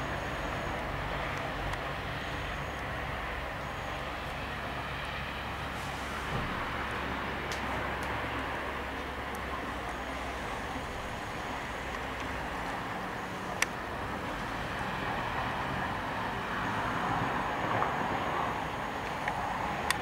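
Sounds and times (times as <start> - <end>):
distant road traffic hum: 0.0 - 20.0.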